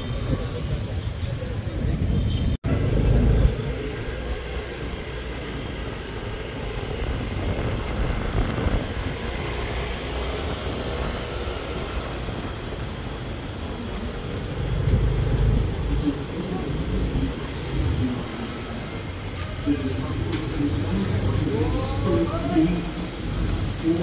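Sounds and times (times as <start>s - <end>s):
outdoor city noise: 0.0s - 24.0s
traffic rumble: 0.0s - 24.0s.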